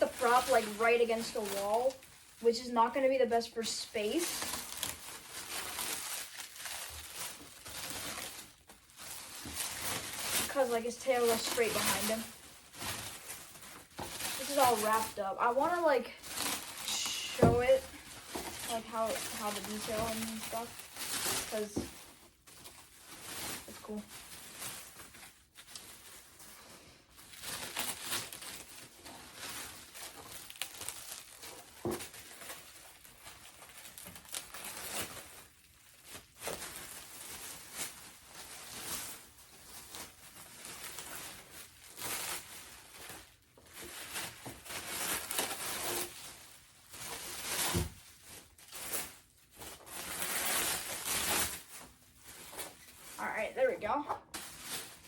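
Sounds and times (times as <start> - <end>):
plastic wrap crinkling and tearing: 0.0 - 55.0.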